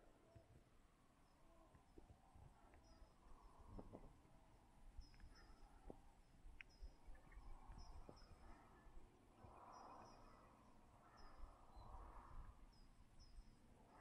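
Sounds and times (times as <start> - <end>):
small birds chirping: 1.2 - 4.2, 4.8 - 14.0.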